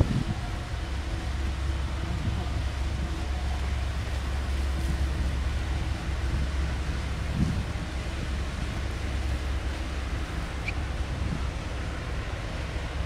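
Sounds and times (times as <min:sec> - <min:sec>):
ship engine droning: 0:00.0 - 0:13.0
wind noise on microphone: 0:00.0 - 0:13.0.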